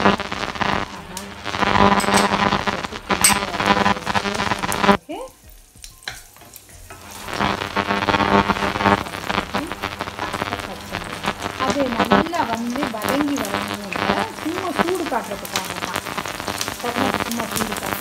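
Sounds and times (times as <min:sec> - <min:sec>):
garlic sizzling in hot oil: 0:00.0 - 0:18.0.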